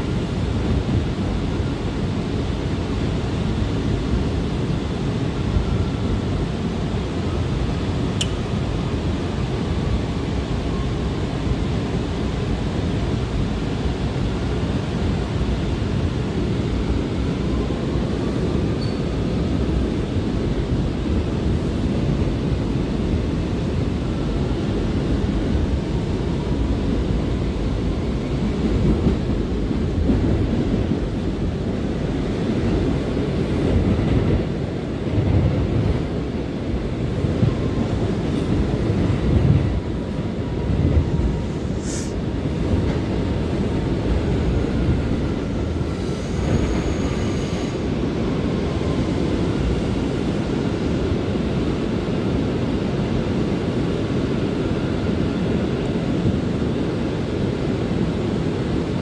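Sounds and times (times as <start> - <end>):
subway wheels rumbling on rails: 0.0 - 59.0.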